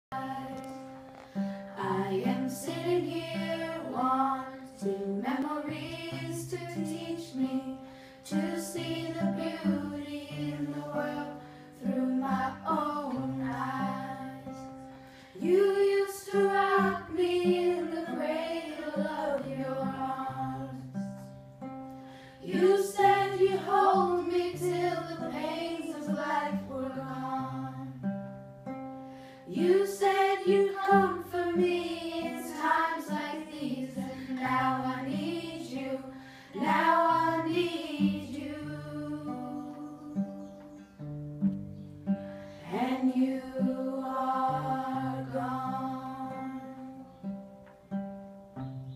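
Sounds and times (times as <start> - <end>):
acoustic guitar: 0.0 - 48.9
girls singing together: 0.1 - 21.3, 22.4 - 28.2, 29.4 - 40.7, 42.6 - 47.1.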